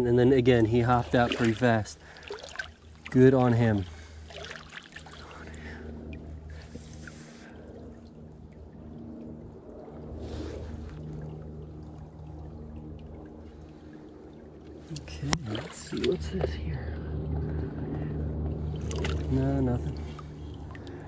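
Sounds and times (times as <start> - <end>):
steady low hum: 0.0 - 21.0
creek water sloshing around legs: 0.3 - 17.9, 18.5 - 21.0.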